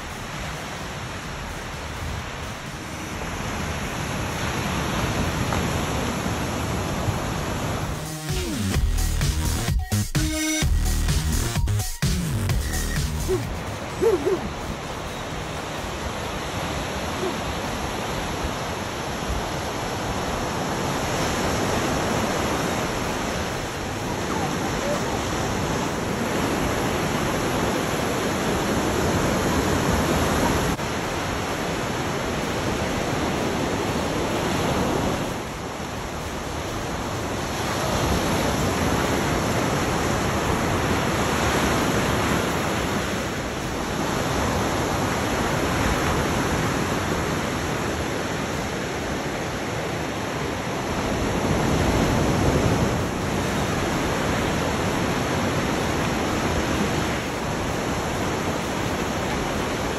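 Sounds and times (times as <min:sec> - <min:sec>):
ocean waves breaking: 0:00.0 - 0:08.7, 0:13.2 - 0:59.9.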